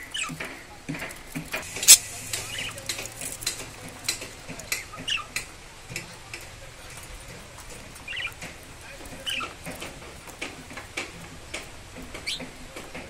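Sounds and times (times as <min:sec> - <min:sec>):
budgerigar clicking and scratching: 0:00.1 - 0:13.0.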